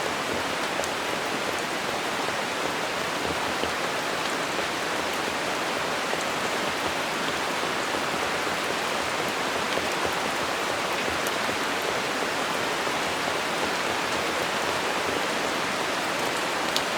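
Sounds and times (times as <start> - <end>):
rain pattering on leaves: 0.1 - 16.9.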